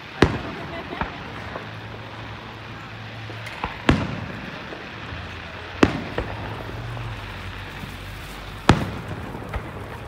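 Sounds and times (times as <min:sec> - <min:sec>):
firework crack: 0:00.0 - 0:10.0
fireworks bursting with bangs: 0:00.0 - 0:10.0.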